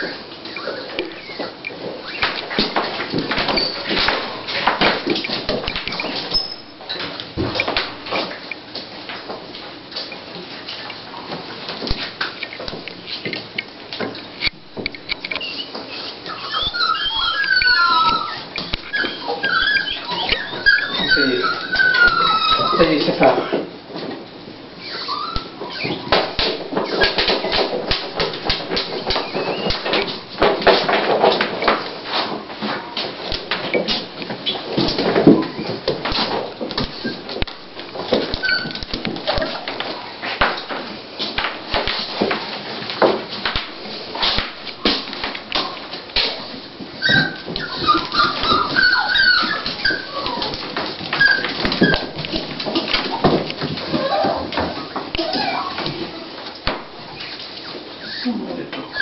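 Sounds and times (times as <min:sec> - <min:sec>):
dog paws scratching fabric: 0:00.0 - 0:14.5, 0:15.1 - 0:59.0
paws knocking the floor: 0:00.0 - 0:57.9.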